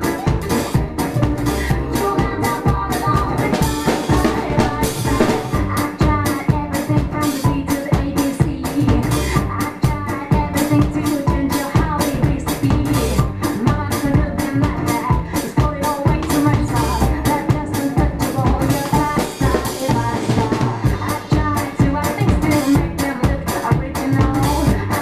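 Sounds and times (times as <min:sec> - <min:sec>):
acoustic drum kit playing: 0:00.0 - 0:25.0
electro swing music: 0:00.0 - 0:25.0.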